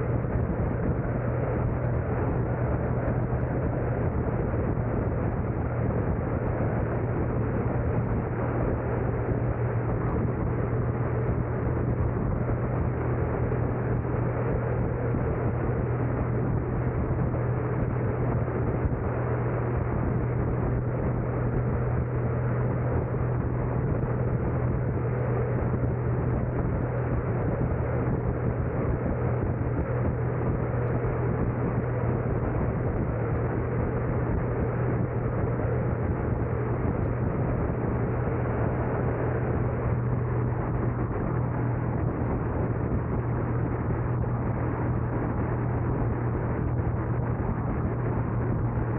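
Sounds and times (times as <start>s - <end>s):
car driving road noise: 0.0s - 48.9s.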